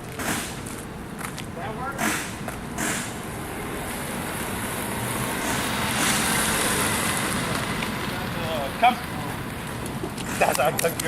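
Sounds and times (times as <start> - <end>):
road traffic rush: 0.0 - 11.0
vehicle passing: 1.8 - 11.0.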